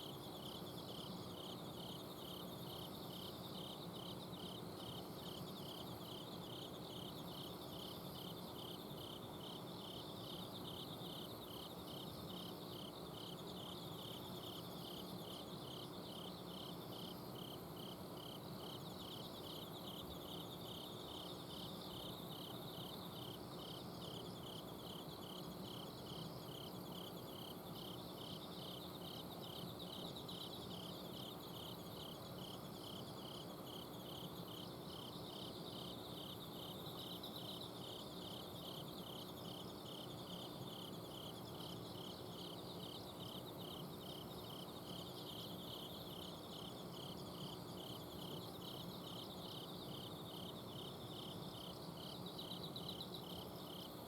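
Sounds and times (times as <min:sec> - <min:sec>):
insect chirping steadily: 0:00.0 - 0:54.0
insects trilling: 0:00.0 - 0:54.0.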